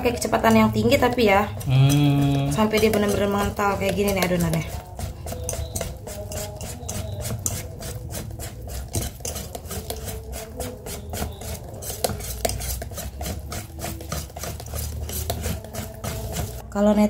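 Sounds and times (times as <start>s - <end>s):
whisk scraping a metal pot: 0.0s - 16.7s.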